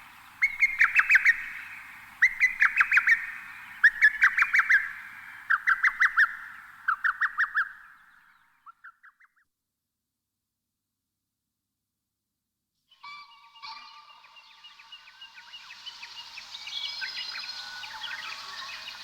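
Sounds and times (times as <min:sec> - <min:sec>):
songbird calling sharp notes: 0:00.0 - 0:09.4, 0:12.9 - 0:19.0.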